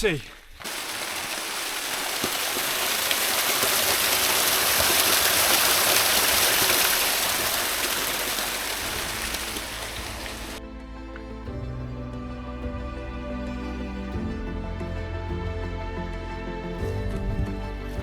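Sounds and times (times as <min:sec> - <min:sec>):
rushing water: 0:00.6 - 0:18.0.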